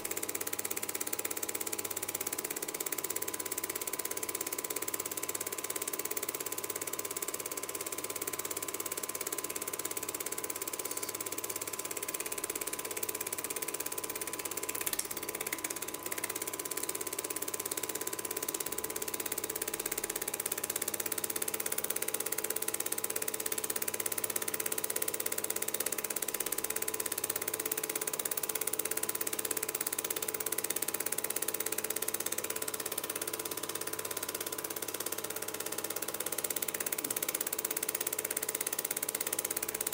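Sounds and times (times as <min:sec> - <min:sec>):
film projector clatter and whirr: 0:00.0 - 0:39.9.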